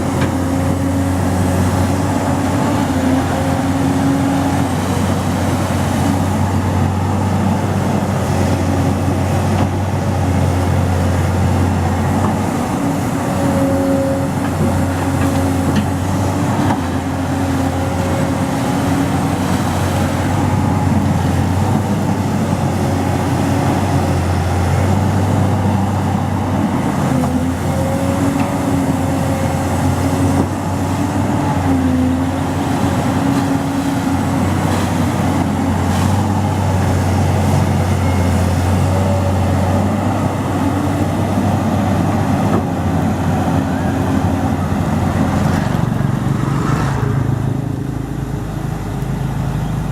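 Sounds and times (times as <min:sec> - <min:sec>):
excavator diesel engine droning: 0:00.0 - 0:49.9.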